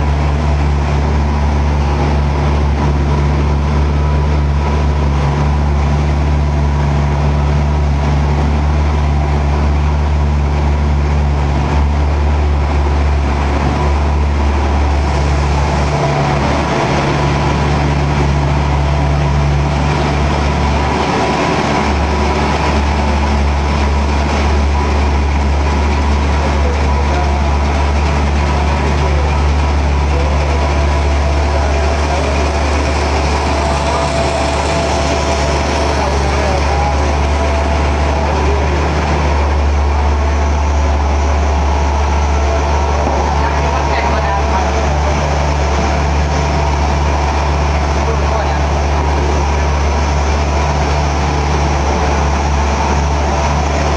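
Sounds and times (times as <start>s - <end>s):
continuous noisy rush: 0.0s - 53.9s
low motor drone: 0.0s - 53.9s.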